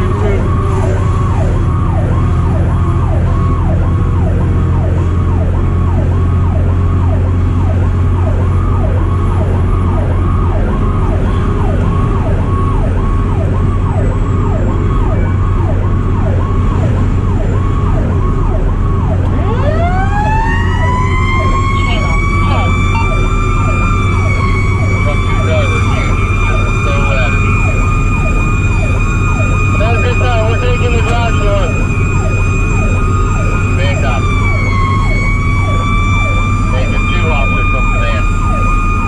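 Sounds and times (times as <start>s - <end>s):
fire truck siren yelping: 0.0s - 39.0s
second siren rising: 0.0s - 39.0s
truck engine drone: 0.0s - 39.0s.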